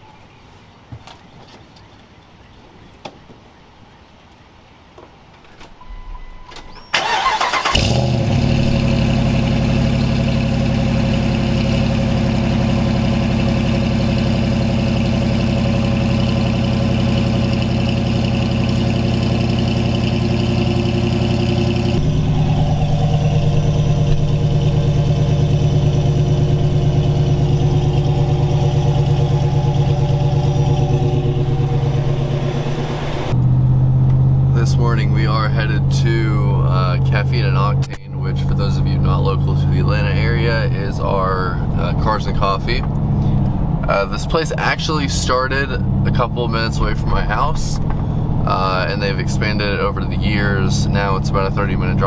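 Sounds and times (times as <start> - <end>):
car engine starting and running: 5.8 - 52.0.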